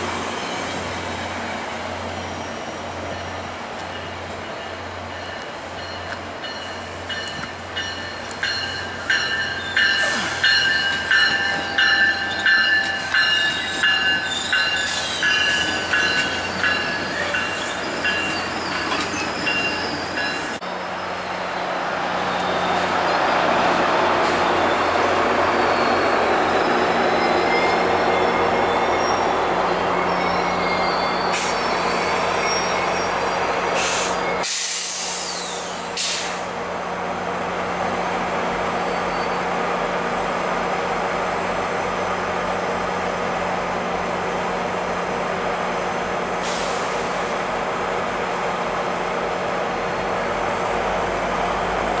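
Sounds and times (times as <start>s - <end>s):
train rolling on rails: 0.0s - 52.0s.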